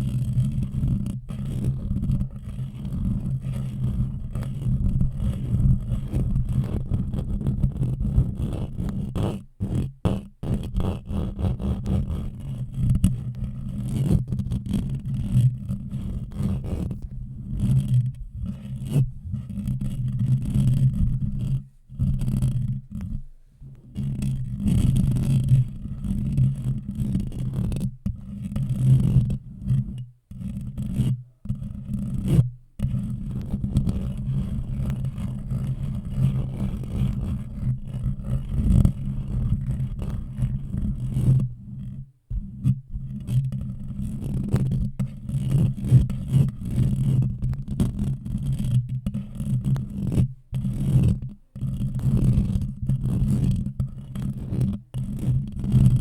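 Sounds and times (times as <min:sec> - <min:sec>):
scraping against a microphone: 0:00.0 - 0:56.0.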